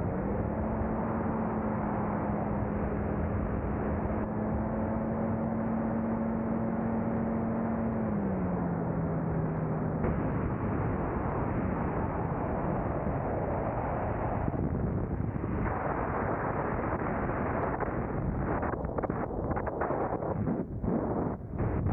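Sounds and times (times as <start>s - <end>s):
small aircraft engine droning: 0.0s - 21.9s
wind rushing over microphone: 0.0s - 21.9s.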